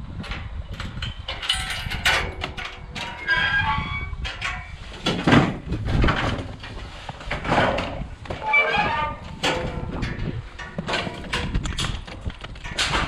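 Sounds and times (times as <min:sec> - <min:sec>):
knocks and clatter: 0:00.2 - 0:13.0.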